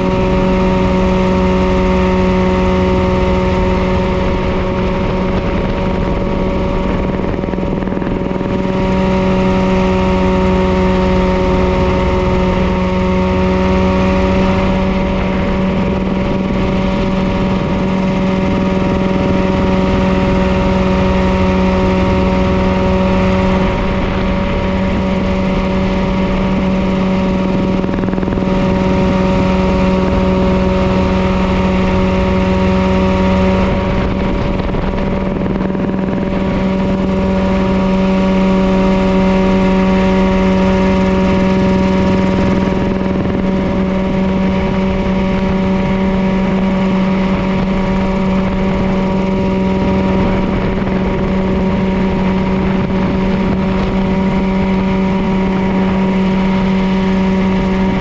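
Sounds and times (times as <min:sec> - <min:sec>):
helicopter engine and rotors: 0:00.0 - 0:58.0
rushing air: 0:00.0 - 0:58.0.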